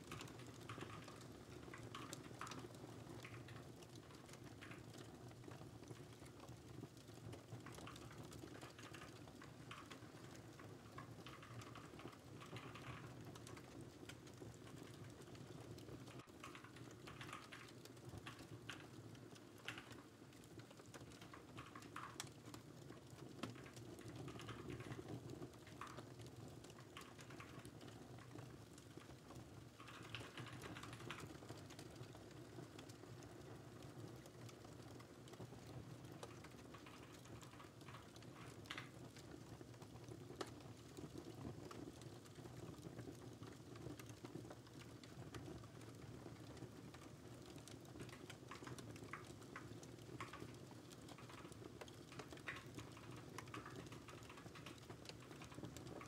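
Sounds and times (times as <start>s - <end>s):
fireplace crackle: 0.0s - 56.0s.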